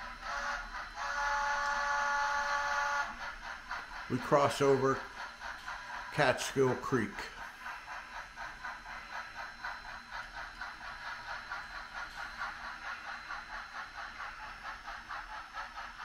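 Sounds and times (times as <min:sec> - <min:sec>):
model train rhythmic beat: 0:00.0 - 0:16.0.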